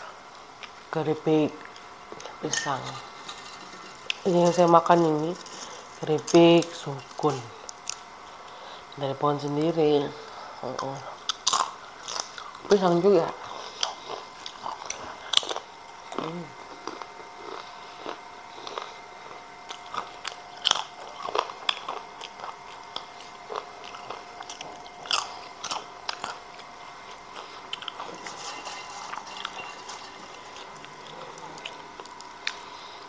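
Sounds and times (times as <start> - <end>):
crunching and chewing chips: 1.6 - 8.9, 10.2 - 33.0.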